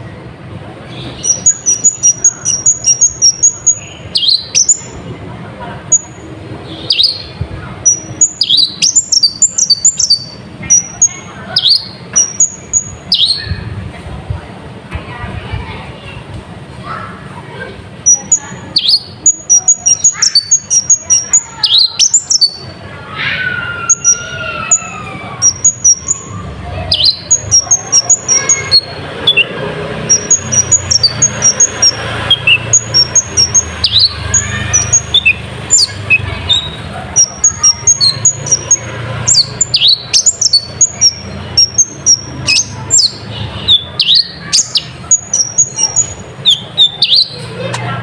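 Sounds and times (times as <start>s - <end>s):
bird singing high chirps: 0.9s - 5.1s, 5.8s - 13.7s, 18.0s - 47.8s.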